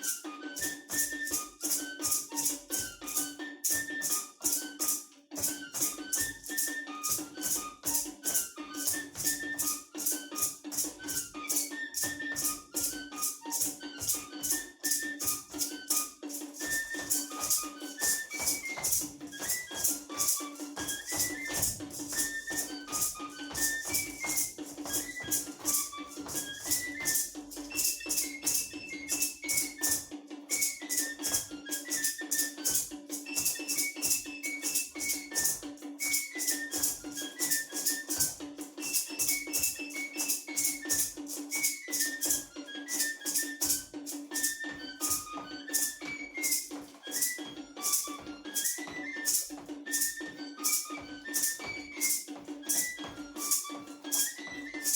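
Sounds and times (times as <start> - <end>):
flute melody: 0.0 - 54.9
rattles shaking: 0.6 - 54.9.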